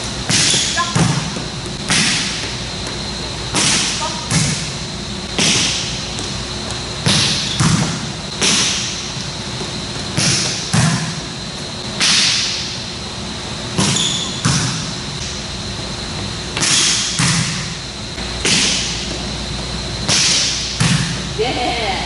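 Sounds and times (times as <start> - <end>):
faint high hum: 0.0 - 22.0
volleyballs smacking and bouncing: 0.1 - 12.8, 13.7 - 15.4, 16.5 - 21.3.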